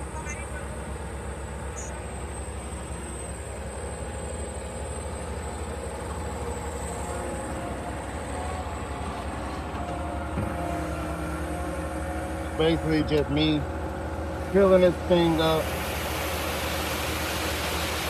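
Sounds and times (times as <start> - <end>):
concrete mixer truck engine rumbling: 0.0 - 18.0.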